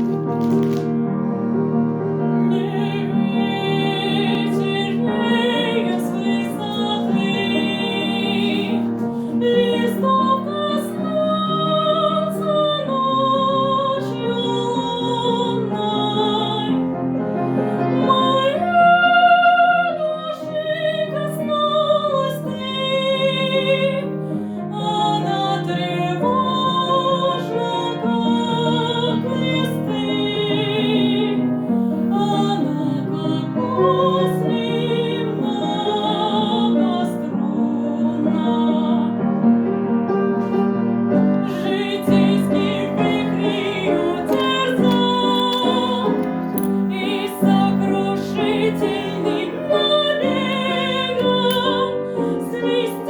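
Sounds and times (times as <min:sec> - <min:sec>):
piano accompaniment: 0:00.0 - 0:53.0
woman singing classically: 0:02.4 - 0:17.0, 0:17.8 - 0:39.2, 0:41.5 - 0:53.0.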